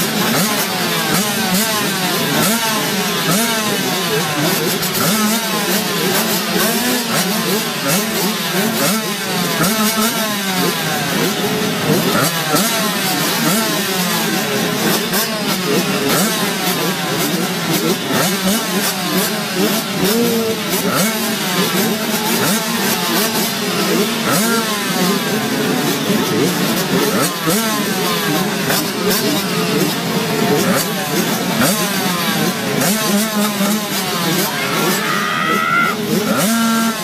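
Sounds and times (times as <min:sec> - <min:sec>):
motorbike engines revving: 0:00.0 - 0:37.0.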